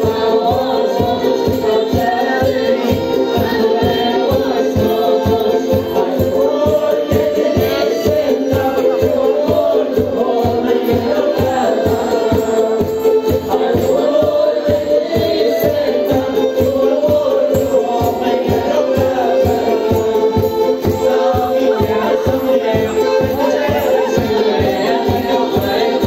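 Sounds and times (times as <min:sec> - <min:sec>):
folk melody: 0:00.0 - 0:26.0
person singing: 0:00.0 - 0:26.0.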